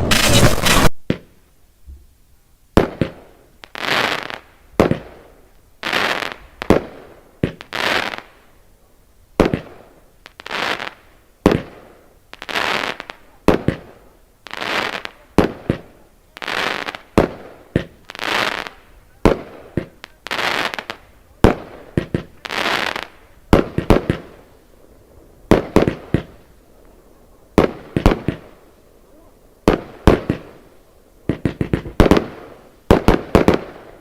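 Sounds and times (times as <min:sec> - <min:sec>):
firework shots cracking and hissing: 0:00.0 - 0:01.4, 0:02.7 - 0:08.6, 0:09.3 - 0:34.0.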